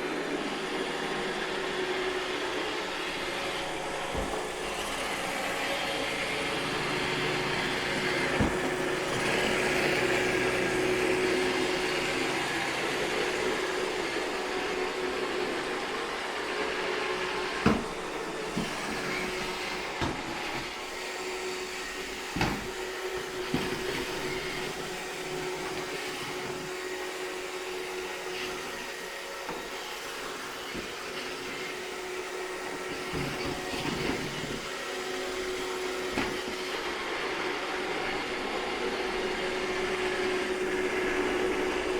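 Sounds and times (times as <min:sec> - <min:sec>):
robot vacuum humming: 0:00.0 - 0:41.9.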